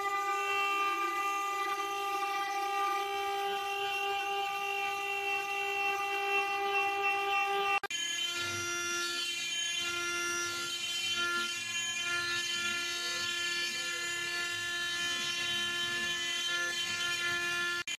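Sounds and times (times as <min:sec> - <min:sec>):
machine spindle whine: 0:00.0 - 0:18.0.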